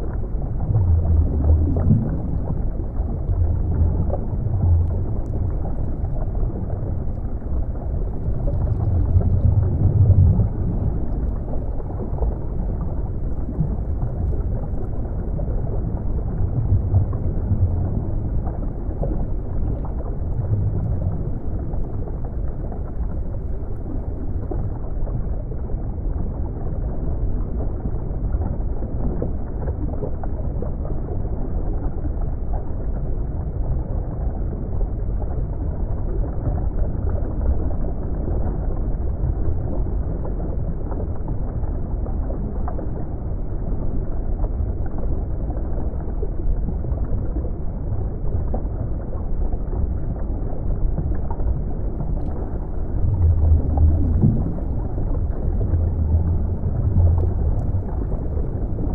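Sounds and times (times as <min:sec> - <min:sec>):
low water surge: 0:00.0 - 0:58.9
muffled underwater rumble: 0:00.0 - 0:58.9.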